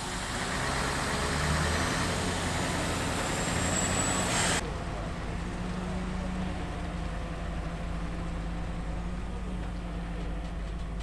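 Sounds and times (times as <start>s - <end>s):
road and air noise: 0.0s - 11.0s
truck diesel engine passing: 0.0s - 11.0s.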